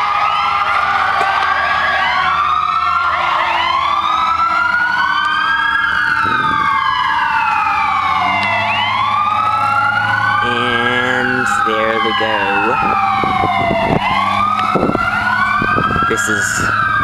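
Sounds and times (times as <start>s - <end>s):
fire truck sirens wailing: 0.0s - 17.0s
low engine hum: 0.1s - 16.1s.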